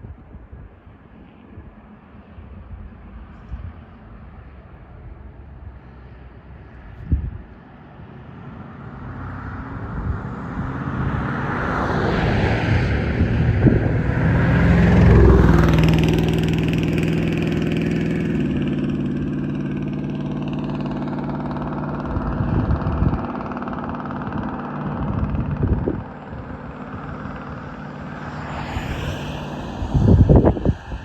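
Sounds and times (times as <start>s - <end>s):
wind buffeting microphone: 0.0s - 31.0s
vehicle engine passing: 5.5s - 31.0s.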